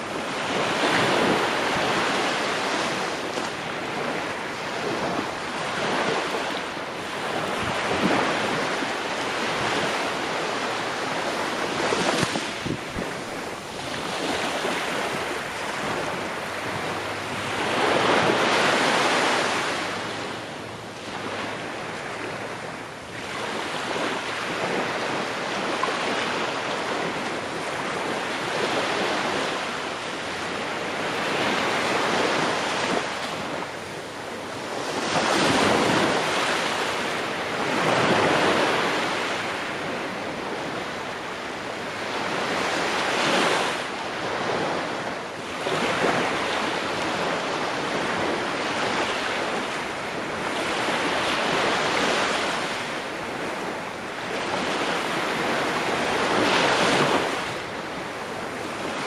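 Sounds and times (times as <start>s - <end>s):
ocean waves breaking: 0.0s - 59.0s
wind: 0.0s - 59.0s.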